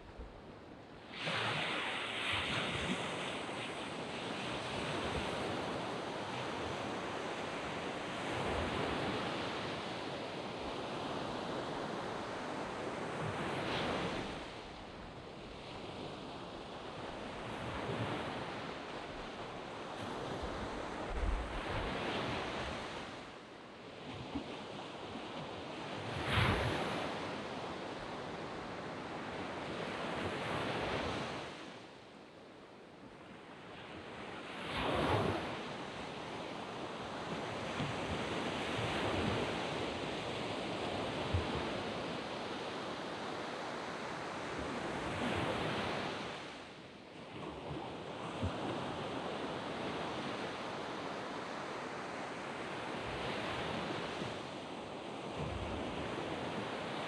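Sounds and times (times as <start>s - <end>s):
waves breaking on sand beach: 0.0s - 31.8s, 33.4s - 57.0s.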